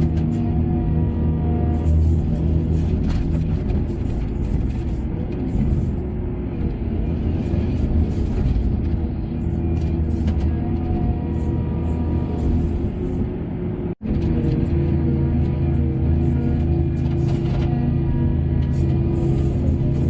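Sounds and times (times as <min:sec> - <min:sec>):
heavy machinery engine rumble: 0:00.0 - 0:20.0.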